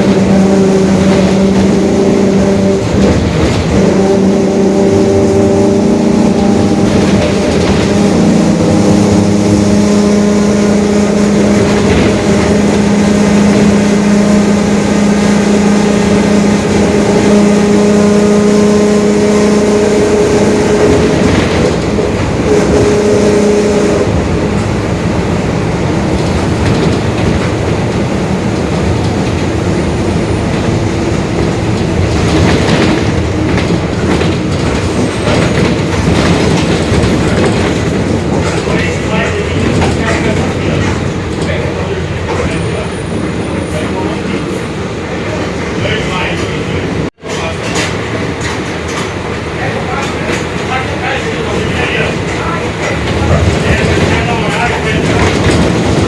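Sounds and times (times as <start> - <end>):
diesel engine running: 0.0 - 45.6
bus body rattling: 0.0 - 56.0.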